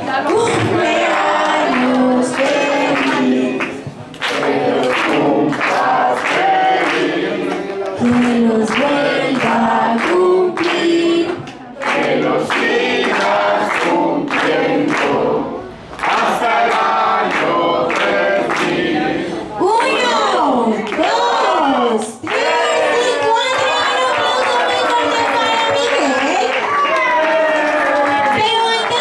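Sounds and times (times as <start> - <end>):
group singing a birthday song: 0.0 - 26.2.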